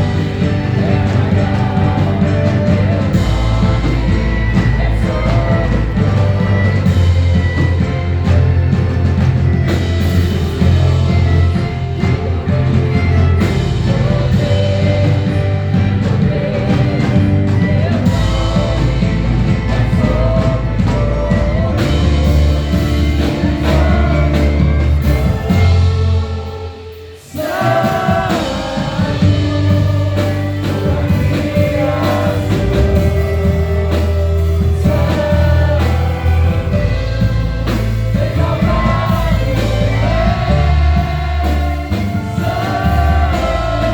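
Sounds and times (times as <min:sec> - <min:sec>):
gospel worship music with singing: 0:00.0 - 0:43.9.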